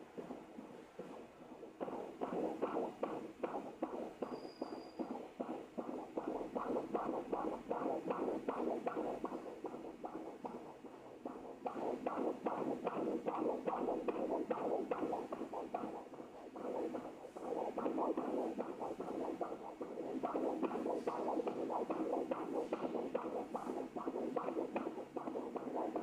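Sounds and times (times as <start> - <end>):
fetal heartbeat whooshing pulse: 0.0 - 26.0.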